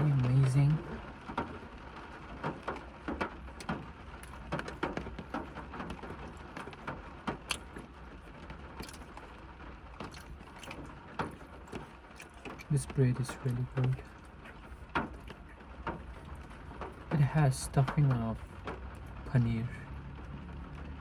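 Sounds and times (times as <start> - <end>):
raindrops tapping on car roof: 0.0 - 21.0.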